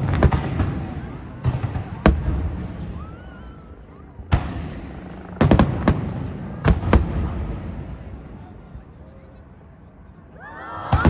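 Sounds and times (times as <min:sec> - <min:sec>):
fireworks bursting with rumbling echo: 0:00.0 - 0:09.6.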